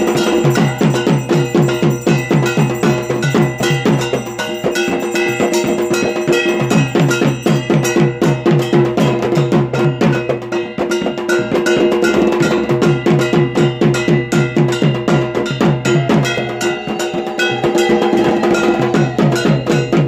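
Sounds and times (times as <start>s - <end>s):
clanging metal percussion: 0.0s - 20.0s
drum beaten fast: 0.0s - 20.0s.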